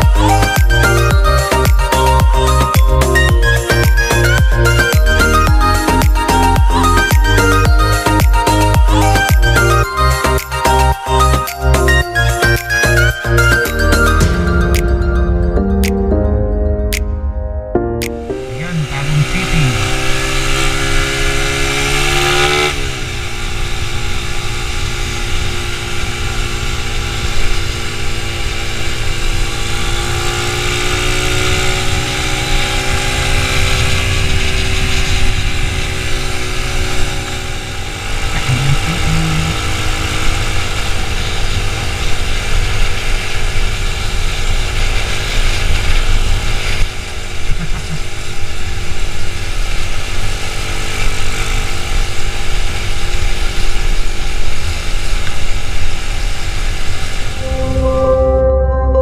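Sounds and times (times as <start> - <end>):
motorcycle engine running: 0.0 - 12.4, 18.5 - 58.2.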